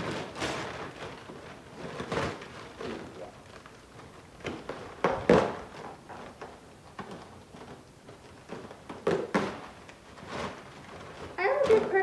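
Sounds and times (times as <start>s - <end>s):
packaging knocks and rustles: 0.0s - 12.0s.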